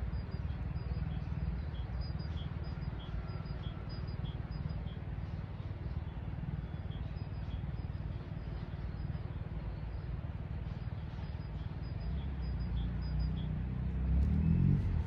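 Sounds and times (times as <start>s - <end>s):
motor vehicle rumbling: 0.0s - 15.0s.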